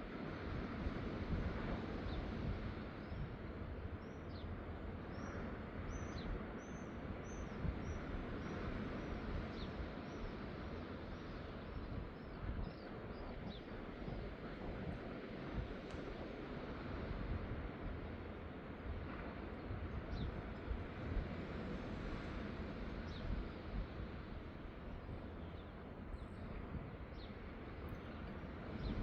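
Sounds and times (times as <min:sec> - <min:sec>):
wind noise on microphone: 0:00.0 - 0:29.0.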